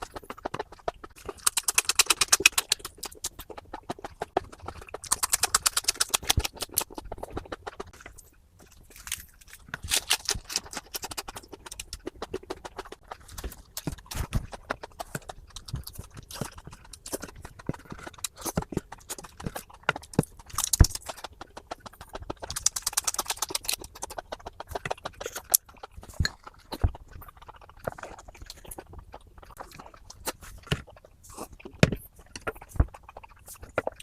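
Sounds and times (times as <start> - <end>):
chewing crunchy vegetables: 0.0 - 34.0.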